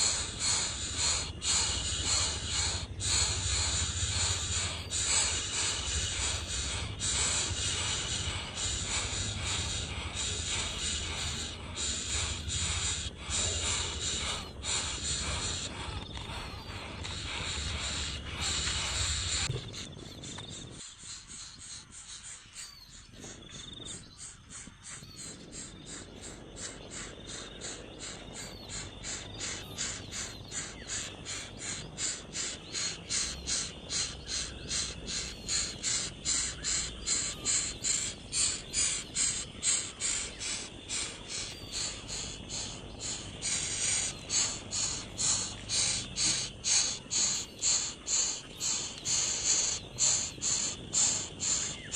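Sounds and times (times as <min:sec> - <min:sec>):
baby bird raspy calls: 0:00.0 - 0:51.9.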